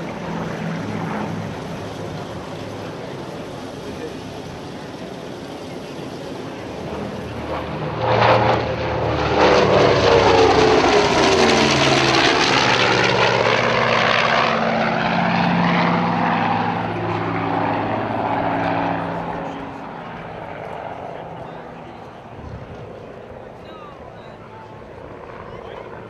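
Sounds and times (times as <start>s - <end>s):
propeller plane engines passing: 0.0s - 26.0s.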